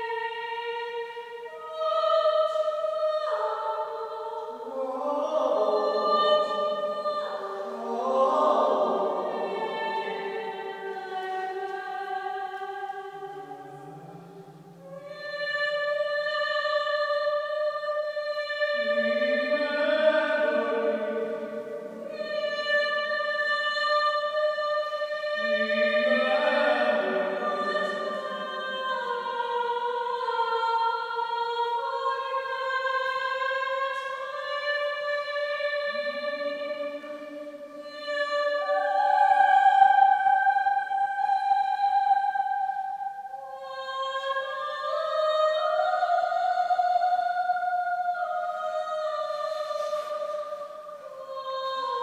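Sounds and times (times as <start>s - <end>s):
operatic singing: 0.0s - 52.0s.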